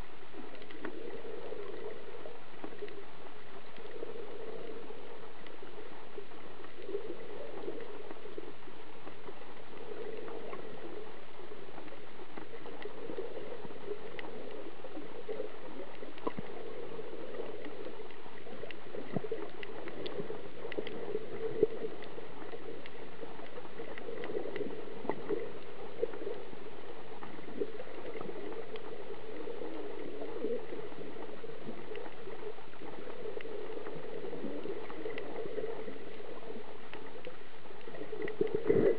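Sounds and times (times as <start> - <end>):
faint clicks and crackles: 0.0 - 38.9
underwater wash of water: 0.0 - 38.9.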